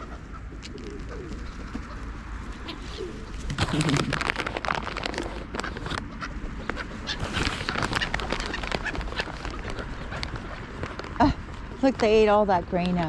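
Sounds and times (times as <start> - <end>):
flock of birds calling: 0.0 - 13.0.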